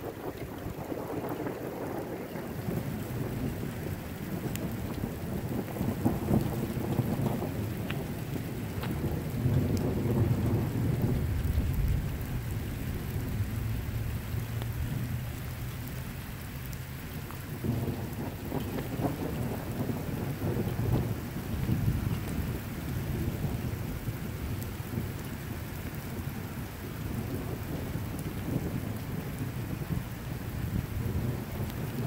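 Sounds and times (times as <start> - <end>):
rain hissing: 0.0 - 32.0
thunder rumbling: 0.0 - 32.0.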